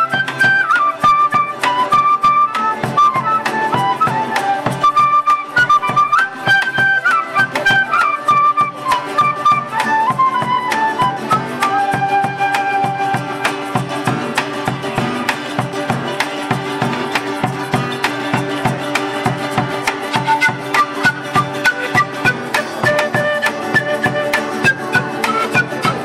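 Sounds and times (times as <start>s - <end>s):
cane flute melody: 0.0s - 14.5s, 17.3s - 26.0s
charango and guitar strumming: 0.0s - 26.0s.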